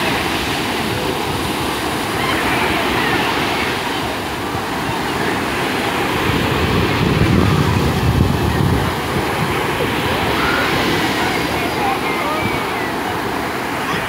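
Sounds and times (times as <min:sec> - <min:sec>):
surf breaking on shore: 0:00.0 - 0:14.0
wind on microphone: 0:00.0 - 0:14.0.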